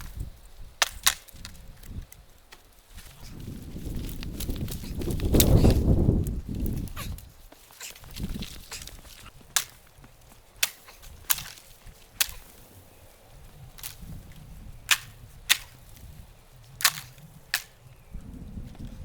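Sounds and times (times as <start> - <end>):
stick whacking tree branches: 0.0 - 18.0.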